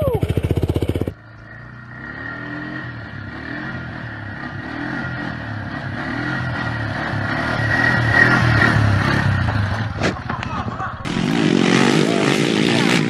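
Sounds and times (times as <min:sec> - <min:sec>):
quad bike engine revving: 0:00.0 - 0:13.0.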